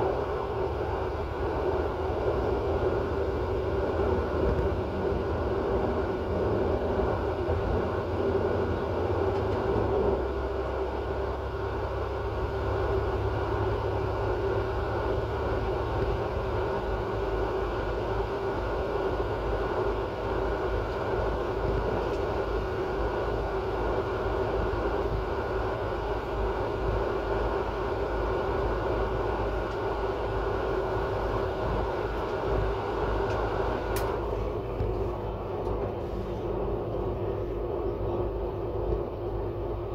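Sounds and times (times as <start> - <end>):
train motor and wheels drone: 0.0 - 39.9.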